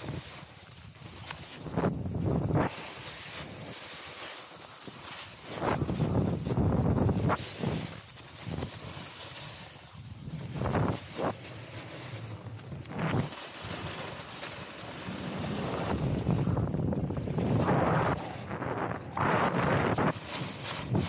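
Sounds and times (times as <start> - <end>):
snowboard edges scraping snow: 0.0 - 21.0.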